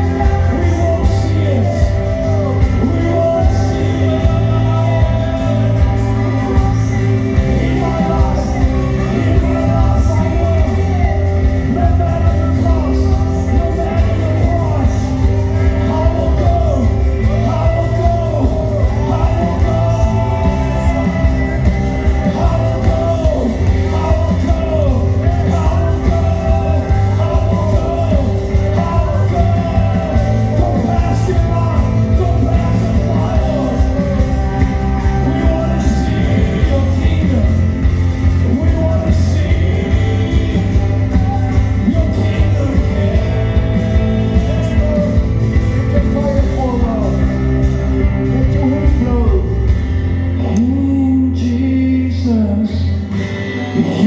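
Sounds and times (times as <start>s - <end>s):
band accompaniment with bass: 0.0s - 54.0s
person singing: 0.0s - 54.0s.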